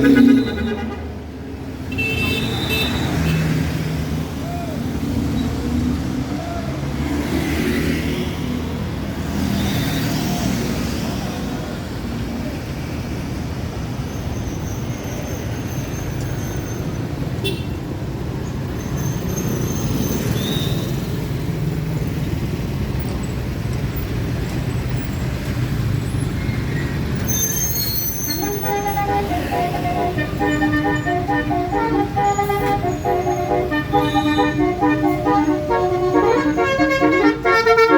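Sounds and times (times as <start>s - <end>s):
bus diesel engines rumbling: 0.0s - 37.9s.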